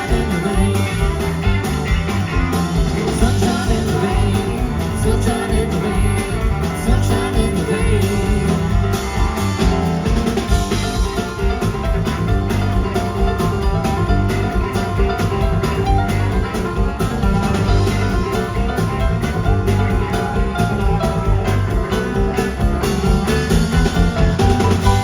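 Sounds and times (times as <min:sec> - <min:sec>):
country rock band playing: 0:00.0 - 0:25.0
drum beat: 0:00.0 - 0:25.0
guitar: 0:00.0 - 0:25.0.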